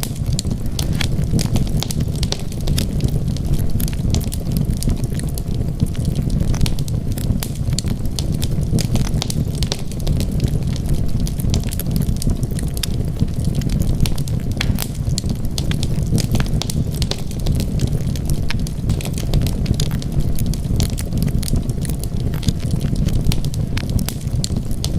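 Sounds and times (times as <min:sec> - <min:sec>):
burning wood crackling and popping: 0:00.0 - 0:24.9
low rumble of flames: 0:00.0 - 0:24.9.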